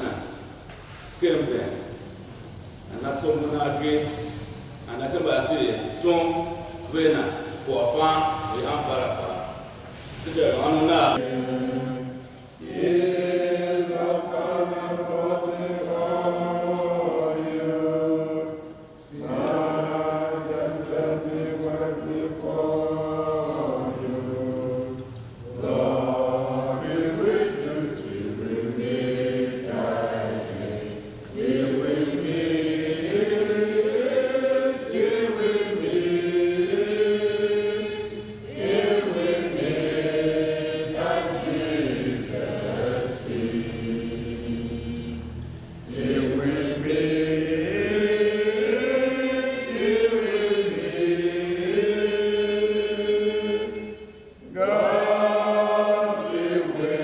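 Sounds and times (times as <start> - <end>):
group singing a chant-like hymn: 0.0 - 57.0.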